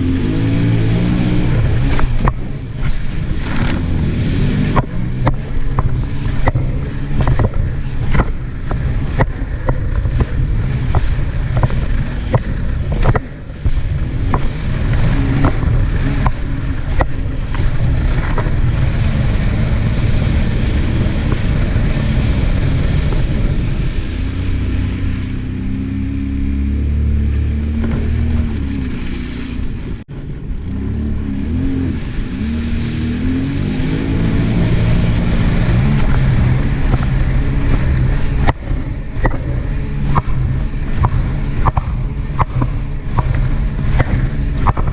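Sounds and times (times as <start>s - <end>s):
hull slapping over waves: 0.0s - 44.9s
jet ski engine: 0.0s - 44.9s
wind on microphone: 0.0s - 44.9s.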